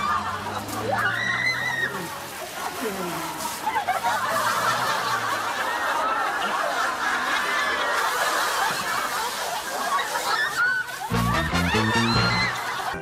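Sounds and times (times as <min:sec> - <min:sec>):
audience laughing: 0:02.1 - 0:13.0.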